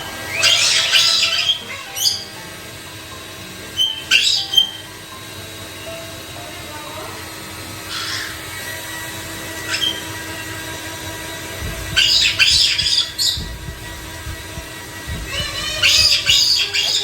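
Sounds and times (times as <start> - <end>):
parrot squawking: 0.0 - 2.8, 3.6 - 5.0, 6.4 - 10.8, 11.6 - 17.0.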